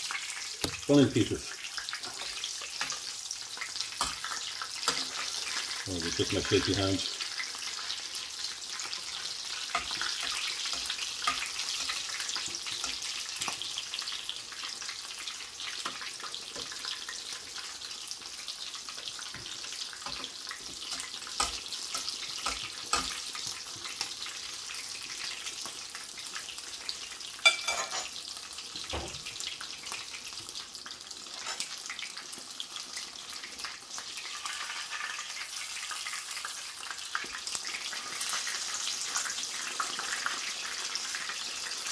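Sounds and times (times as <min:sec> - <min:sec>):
chicken sizzling in frying pan: 0:00.0 - 0:41.9.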